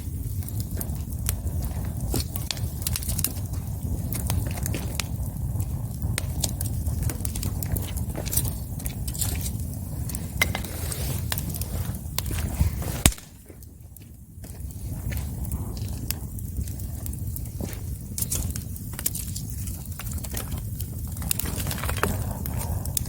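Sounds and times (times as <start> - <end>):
crackles and pops of burning wood: 0.0 - 23.0
wood fire burning: 0.0 - 23.0.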